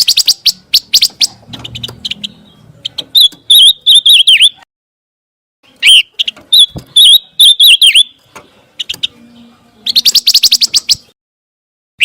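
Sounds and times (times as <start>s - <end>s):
bird fast trill: 0.0s - 4.6s, 5.6s - 11.2s
bird whistling song: 0.0s - 4.6s, 5.7s - 11.2s.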